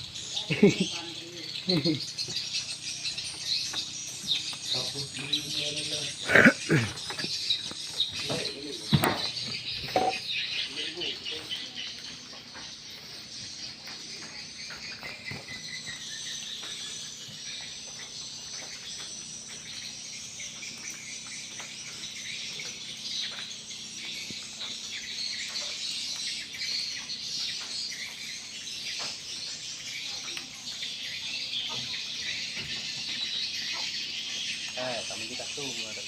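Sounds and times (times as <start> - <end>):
swiftlets twittering: 0.0 - 36.0.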